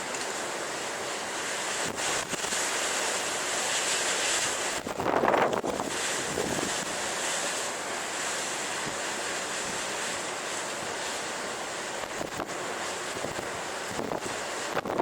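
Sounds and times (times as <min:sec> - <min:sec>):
breaking waves: 0:00.0 - 0:15.0
wind: 0:00.0 - 0:15.0.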